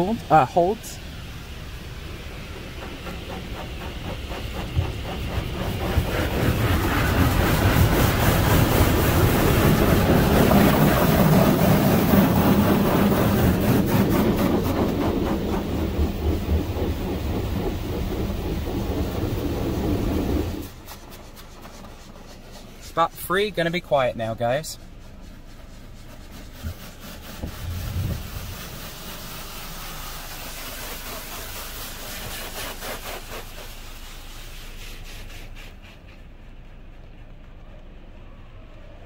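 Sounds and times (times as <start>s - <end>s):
water spraying onto car: 0.0s - 38.0s.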